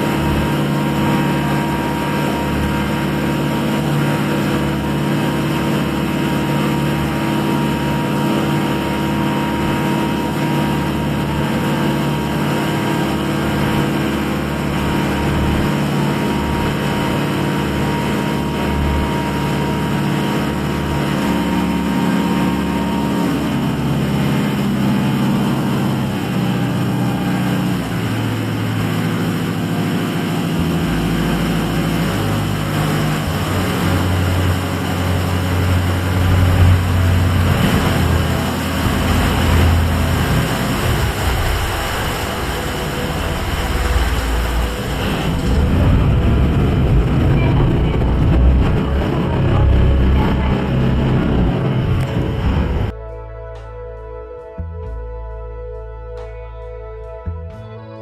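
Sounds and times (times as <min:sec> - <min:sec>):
ferry engine running: 0:00.0 - 0:55.0.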